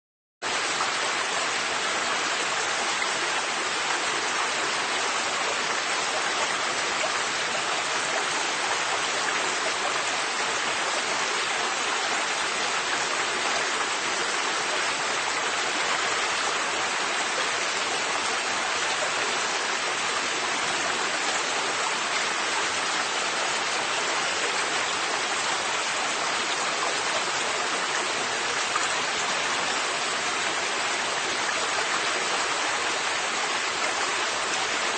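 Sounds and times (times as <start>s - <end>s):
river water rushing: 0.5s - 34.9s.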